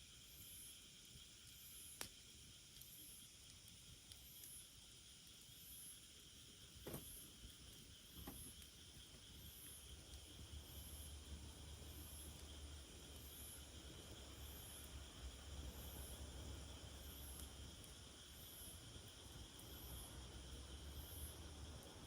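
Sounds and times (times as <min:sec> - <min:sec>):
insects buzzing: 0:00.1 - 0:22.0.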